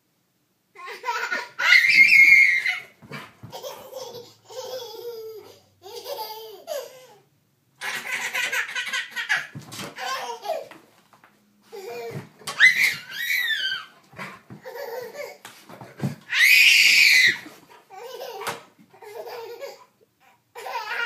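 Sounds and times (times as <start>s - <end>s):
baby laughing: 0.8s - 10.8s, 11.7s - 15.4s, 16.2s - 21.0s.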